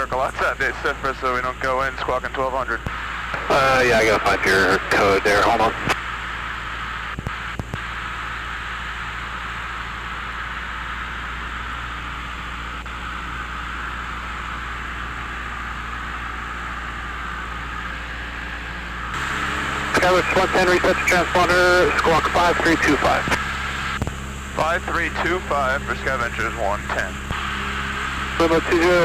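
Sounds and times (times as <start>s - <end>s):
airplane cabin drone: 0.0s - 29.0s.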